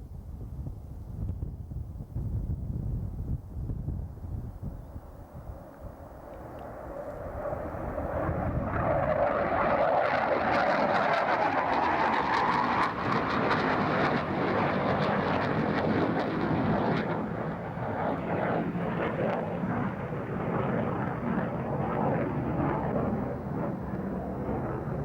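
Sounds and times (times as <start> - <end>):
loud rushing jet engines: 4.9 - 25.0.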